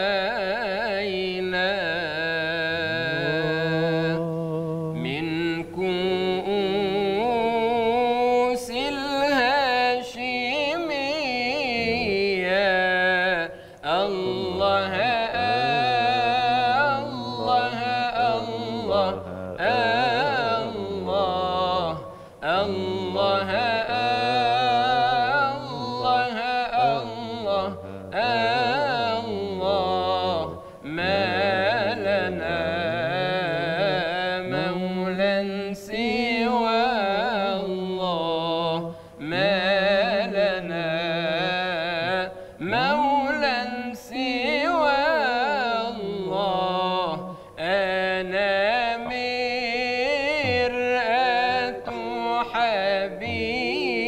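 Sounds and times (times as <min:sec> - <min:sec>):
man singing devotional chant: 0:00.0 - 0:54.0.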